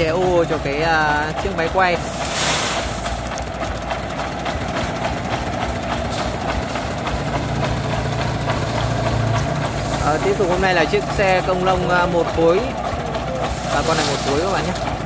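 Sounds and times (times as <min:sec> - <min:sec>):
deep crane engine hum: 0:00.0 - 0:15.0
diesel engine idling clatter: 0:00.0 - 0:15.0.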